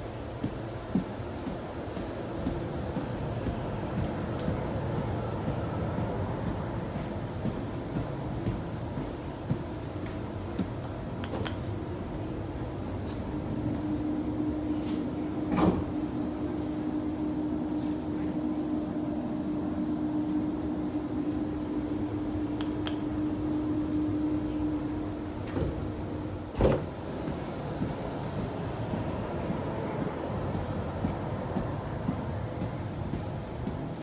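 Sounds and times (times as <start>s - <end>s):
steady low tone: 0.0s - 34.0s
train carriage rumble: 0.0s - 34.0s.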